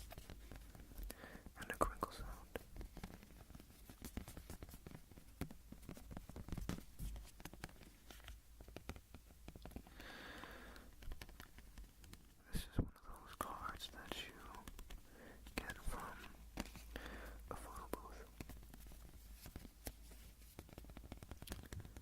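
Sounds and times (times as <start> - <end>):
tapping and scratching on object: 0.0 - 10.0, 10.7 - 12.4, 13.1 - 22.0.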